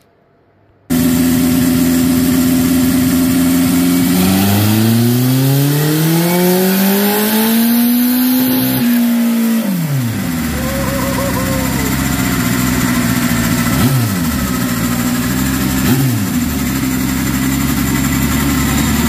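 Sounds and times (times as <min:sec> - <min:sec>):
motorcycle engine revving on dyno: 0:00.9 - 0:19.0.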